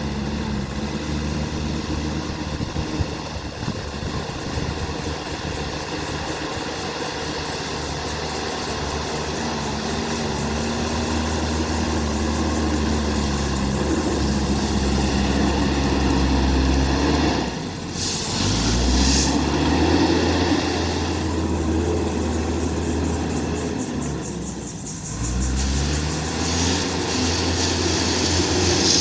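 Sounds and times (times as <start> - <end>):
diesel engine working: 0.0 - 29.0
hiss: 3.9 - 29.0.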